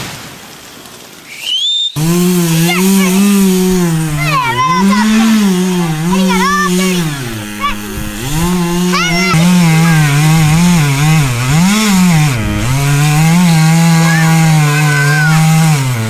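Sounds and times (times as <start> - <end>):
chainsaw cutting wood: 2.0 - 16.0.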